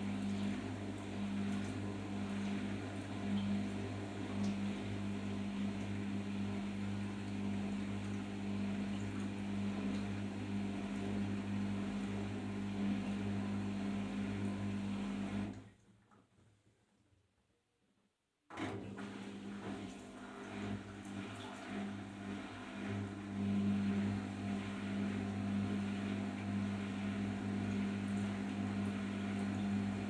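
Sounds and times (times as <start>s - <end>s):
washing machine humming: 0.0s - 15.6s, 18.5s - 30.0s.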